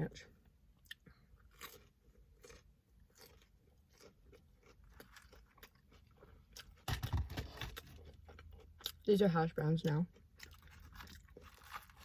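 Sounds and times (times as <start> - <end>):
person chewing crunchy food: 0.7 - 9.2, 9.8 - 12.0.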